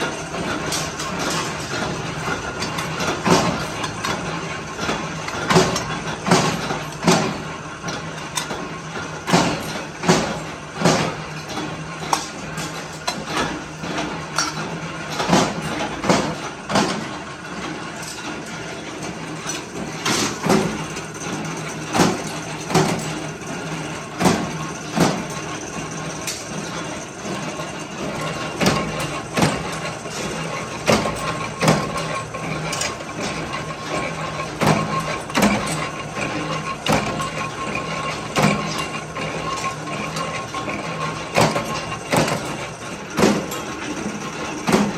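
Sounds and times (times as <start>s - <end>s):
workshop machinery humming: 0.0s - 44.9s.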